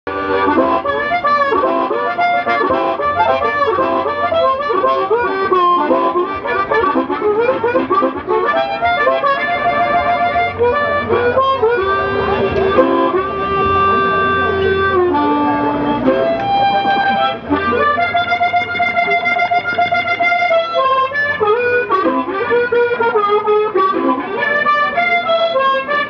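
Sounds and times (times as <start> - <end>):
blues harmonica melody: 0.1 - 26.0.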